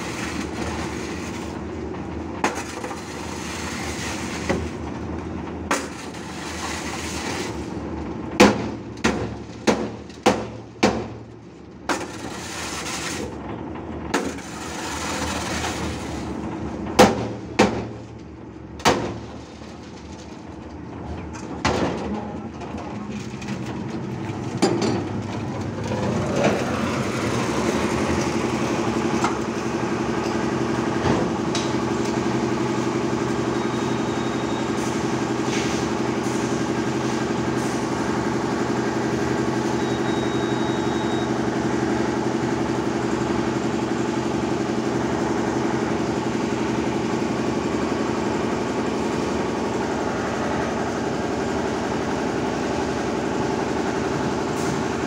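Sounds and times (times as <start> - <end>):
concrete mixer engine droning: 0.0 - 55.0.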